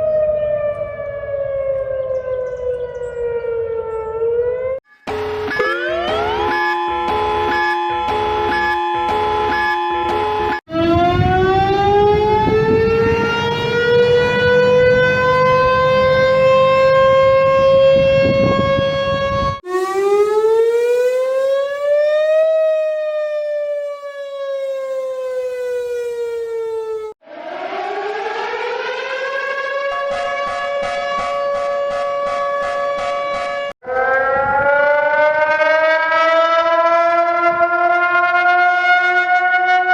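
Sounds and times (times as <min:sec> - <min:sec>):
warning sirens winding: 0:00.0 - 0:39.9.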